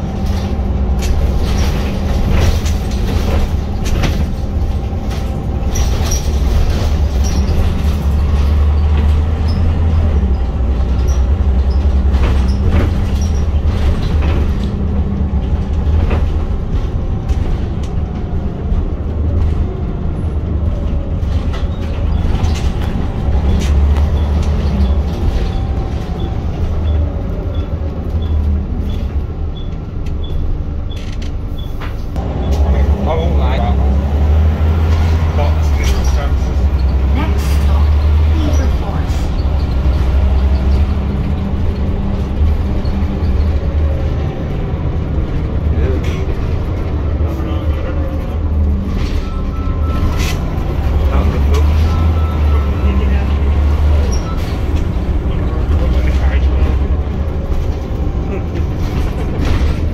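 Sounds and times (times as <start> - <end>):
bus engine and road drone: 0.0 - 59.9
rattles from bus body: 0.0 - 59.9.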